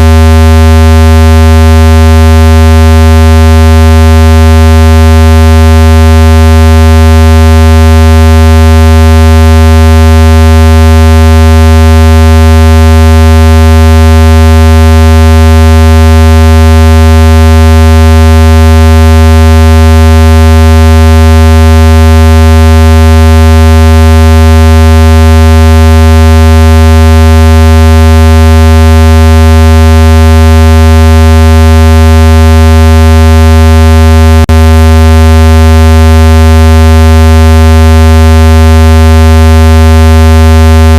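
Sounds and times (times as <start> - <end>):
loud steady buzzy low tone: 0.0 - 40.9.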